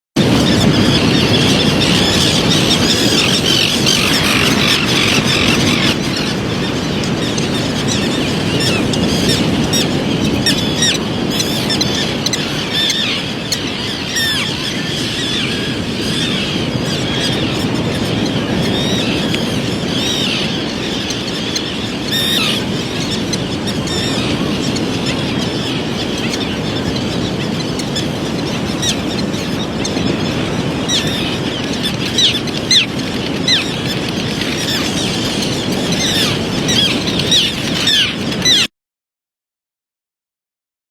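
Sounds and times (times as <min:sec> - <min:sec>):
baby birds peeping: 0:00.2 - 0:38.7.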